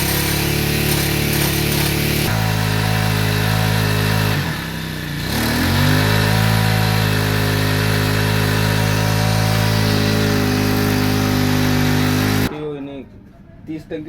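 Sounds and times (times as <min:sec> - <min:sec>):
small four-stroke pump engine running: 0:00.0 - 0:12.5.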